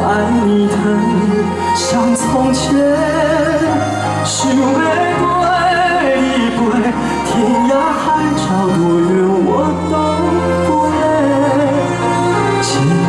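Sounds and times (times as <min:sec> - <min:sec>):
instrumental accompaniment: 0:00.0 - 0:13.0
man singing with vibrato: 0:00.0 - 0:13.0.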